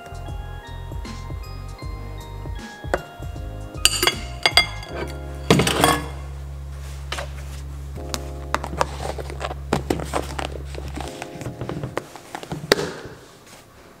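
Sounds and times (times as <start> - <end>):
soft piano music: 0.0 - 13.4.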